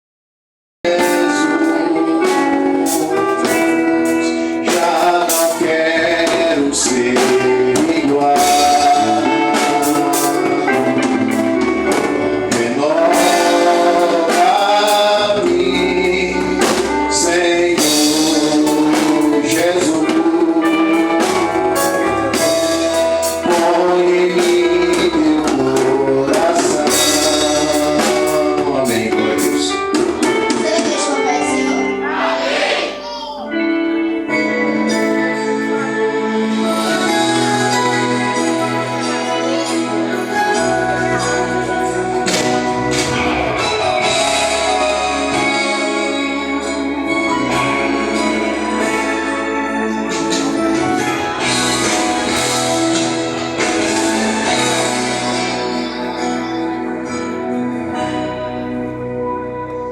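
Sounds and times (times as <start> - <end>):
gospel singing over a band: 0.9 - 33.0, 34.2 - 59.9.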